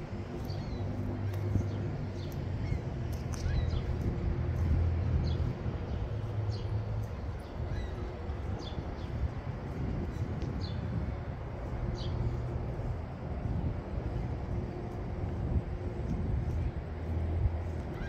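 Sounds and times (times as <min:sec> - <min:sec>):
small birds chirping: 0:00.0 - 0:15.0
city traffic rumble: 0:00.0 - 0:18.0.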